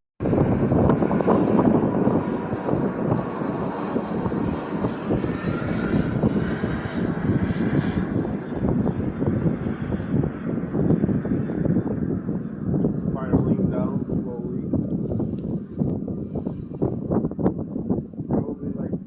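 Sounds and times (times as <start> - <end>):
aircraft engine drone: 0.2 - 19.0.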